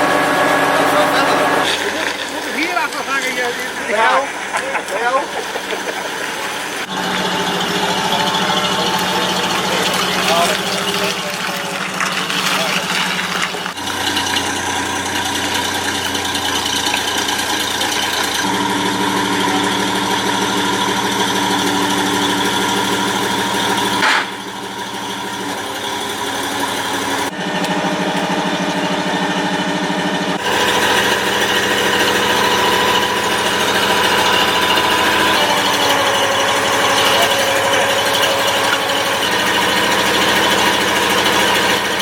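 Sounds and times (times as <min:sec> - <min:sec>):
rough idling engine: 0:00.0 - 0:42.0.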